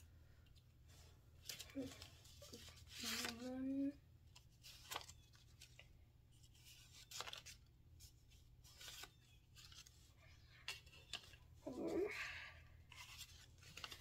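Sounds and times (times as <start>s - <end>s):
paper bills rustling: 1.4s - 12.2s, 12.8s - 14.0s.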